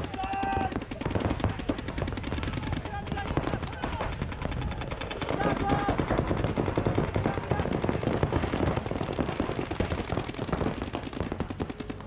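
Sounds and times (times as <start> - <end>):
paintball markers firing: 0.0 - 12.0.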